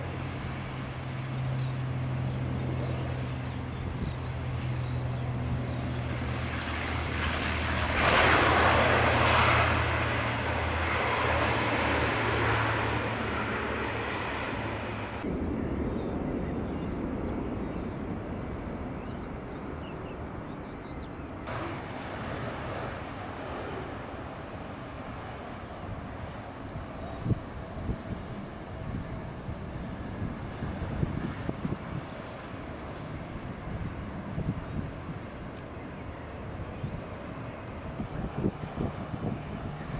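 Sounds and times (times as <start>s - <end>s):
jet airliner rolling out: 0.0s - 39.9s
jet plane landing: 0.0s - 39.9s
turboprop plane landing roll: 0.0s - 39.9s.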